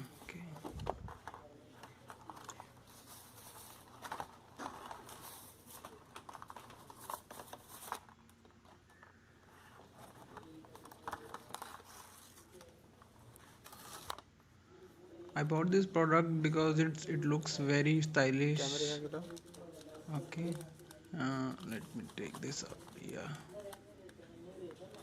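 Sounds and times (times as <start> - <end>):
cardboard and plastic rustling: 0.0 - 14.4, 18.7 - 25.0.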